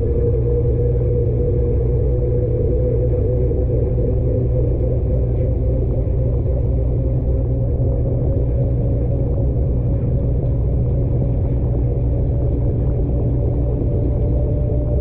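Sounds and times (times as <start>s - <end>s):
faint steady hum: 0.0s - 15.0s
washing machine rumbling: 0.0s - 15.0s.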